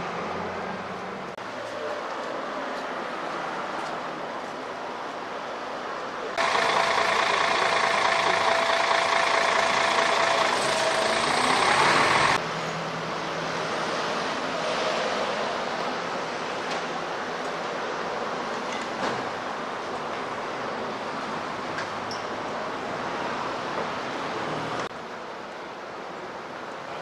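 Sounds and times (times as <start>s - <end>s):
passing road vehicles: 0.0s - 27.0s.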